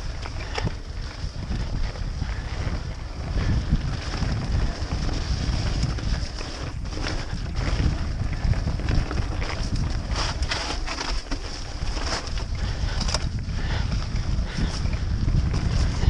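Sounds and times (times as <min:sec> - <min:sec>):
bike clicks and rattles: 0:00.0 - 0:16.0
bike tyres on wet dirt: 0:00.0 - 0:16.0
wind rumbling on microphone: 0:00.0 - 0:16.0.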